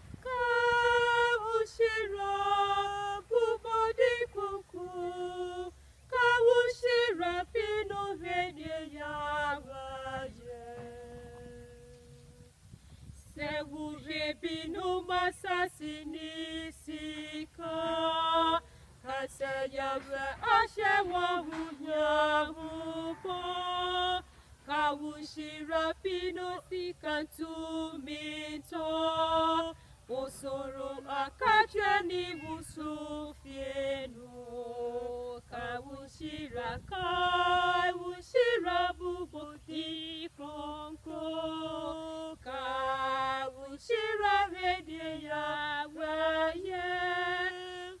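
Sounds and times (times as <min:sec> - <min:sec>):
women singing a hymn unaccompanied: 0:00.0 - 0:48.0.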